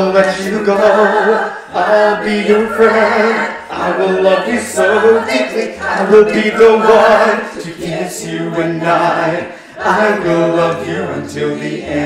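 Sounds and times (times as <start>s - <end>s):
choir-like voices singing: 0.0s - 12.0s.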